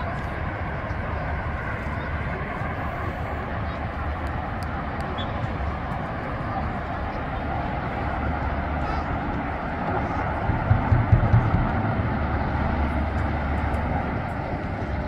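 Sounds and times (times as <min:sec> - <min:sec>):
distant voices murmuring: 0:00.0 - 0:15.0.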